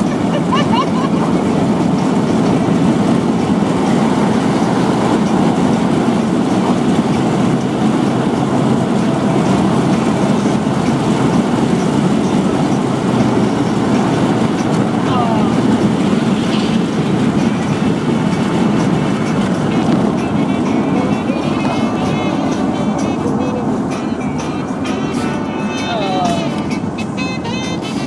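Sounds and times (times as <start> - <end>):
car engine hum: 0.0 - 28.0.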